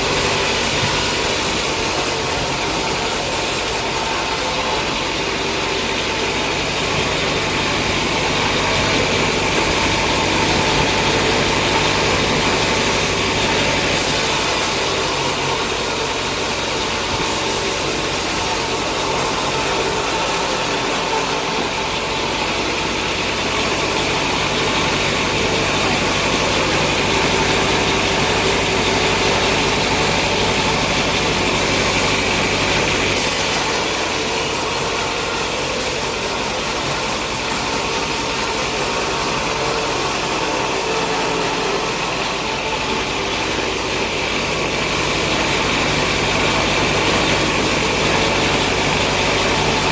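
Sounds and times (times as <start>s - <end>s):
sawmill machinery drone: 0.0s - 49.9s.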